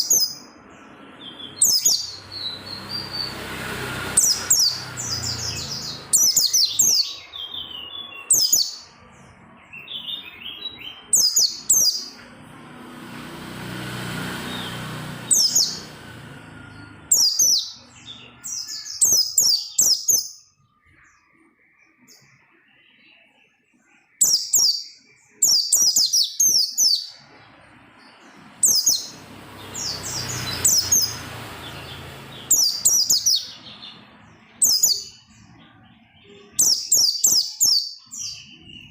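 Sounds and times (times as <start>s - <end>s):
bird twittering chirps: 0.0s - 12.9s, 13.6s - 38.9s.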